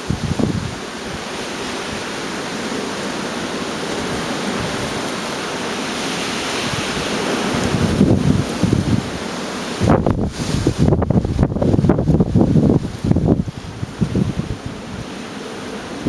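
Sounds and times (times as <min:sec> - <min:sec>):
gale wind roaring: 0:00.0 - 0:16.0.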